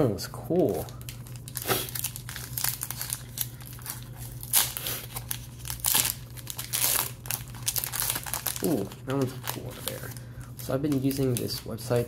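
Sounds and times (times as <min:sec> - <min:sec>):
foil wrapper crinkling and tearing: 0:00.7 - 0:12.0.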